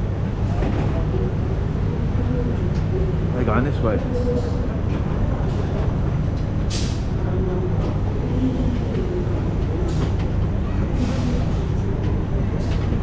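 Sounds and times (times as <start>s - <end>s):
moving train rumbling: 0.0s - 13.0s.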